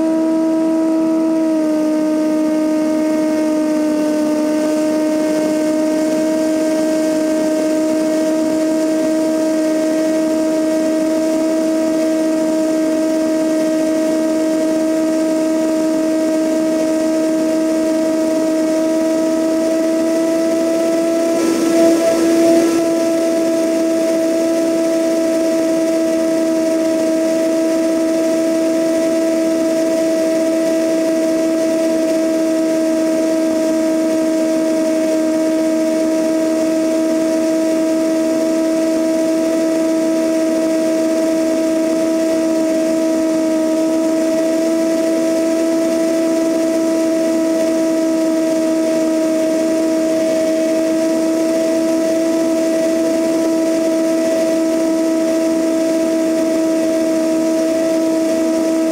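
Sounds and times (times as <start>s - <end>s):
aircraft engine and propeller: 0.0s - 58.9s.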